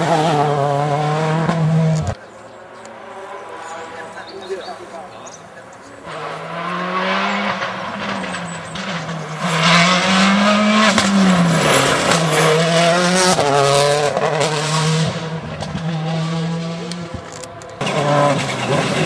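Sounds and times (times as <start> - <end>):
rally car engine accelerating: 0.0 - 4.3, 5.9 - 19.0.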